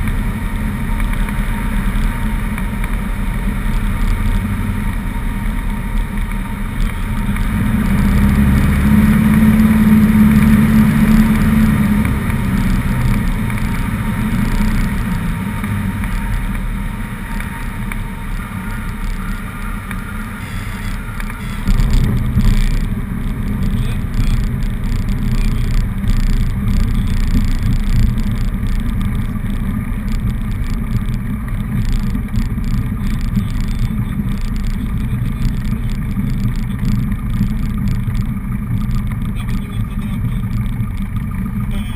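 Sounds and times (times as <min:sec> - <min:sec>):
small plane engine running: 0:00.0 - 0:41.9.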